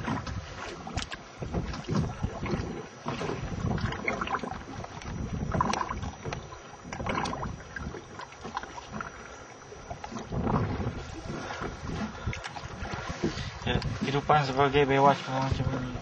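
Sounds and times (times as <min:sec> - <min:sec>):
water slapping against boat hull: 0:00.0 - 0:16.0
wind buffeting microphone: 0:00.0 - 0:16.0.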